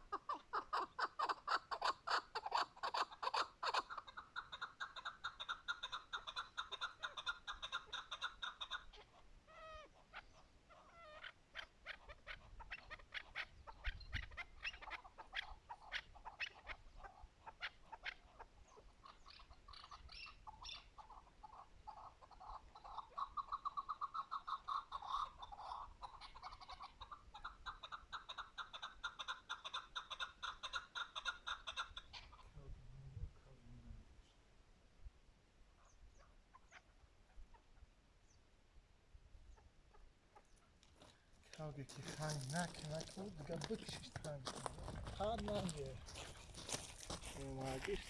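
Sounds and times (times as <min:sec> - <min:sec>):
partridge clucking calls: 0:00.0 - 0:32.7, 0:35.8 - 0:38.0, 0:39.5 - 0:48.0.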